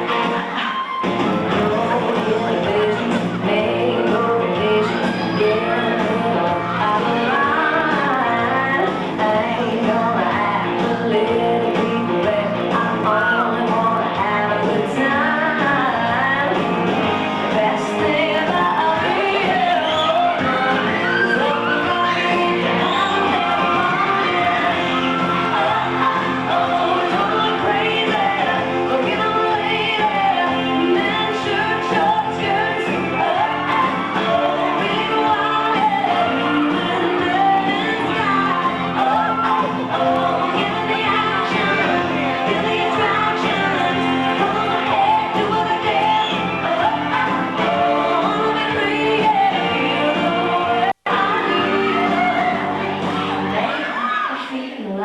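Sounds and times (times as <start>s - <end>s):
instrumental backing: 0.0s - 53.7s
guitar: 0.0s - 55.0s
person singing: 0.0s - 55.0s.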